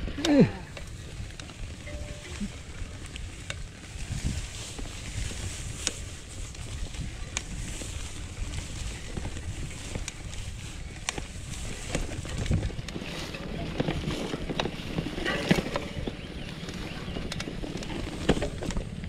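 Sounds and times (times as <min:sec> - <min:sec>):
wind and tyre rumble: 0:00.0 - 0:19.0.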